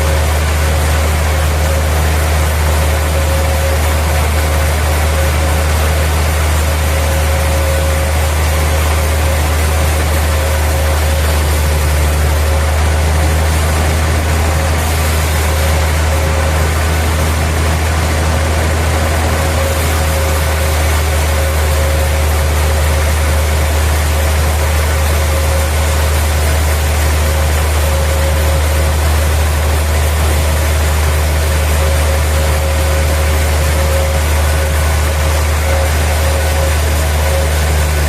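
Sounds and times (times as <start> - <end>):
sawmill machinery droning: 0.0 - 38.0.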